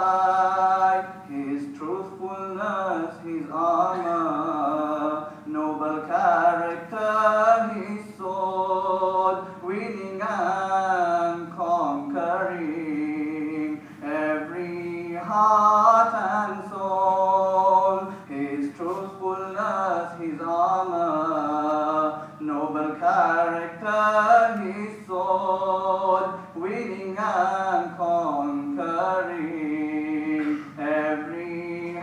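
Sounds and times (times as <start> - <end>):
man singing: 0.0 - 32.0.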